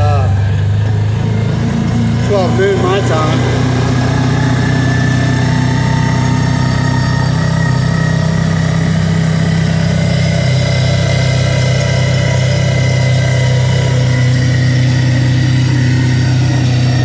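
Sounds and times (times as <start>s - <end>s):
engine droning while driving: 0.0s - 17.0s.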